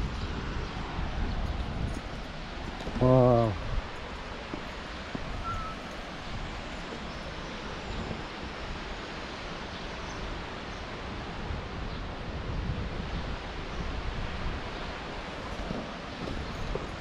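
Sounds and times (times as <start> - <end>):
wind on microphone: 0.0 - 17.0
waterfall roaring: 2.0 - 12.4, 13.4 - 17.0.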